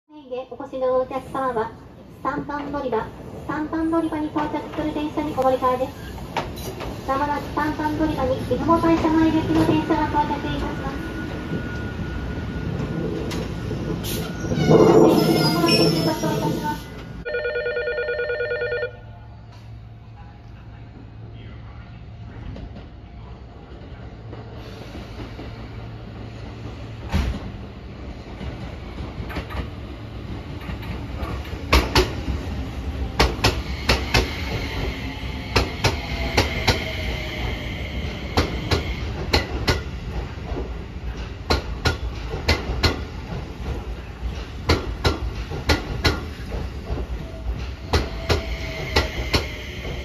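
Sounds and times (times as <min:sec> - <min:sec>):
train rumbling: 0:00.5 - 0:17.3, 0:19.2 - 0:50.0.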